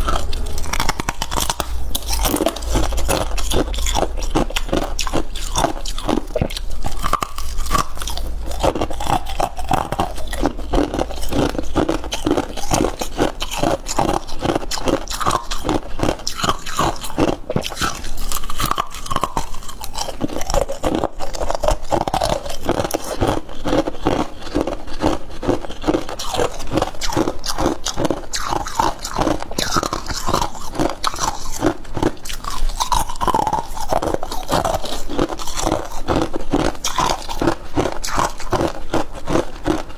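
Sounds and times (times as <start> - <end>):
crunchy chewing of frost: 0.0 - 39.9.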